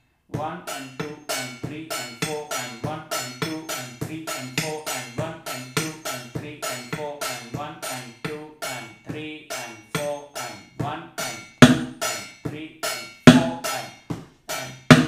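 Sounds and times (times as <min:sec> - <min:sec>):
metal spoon striking steel plate: 0:00.7 - 0:09.0, 0:09.6 - 0:15.0.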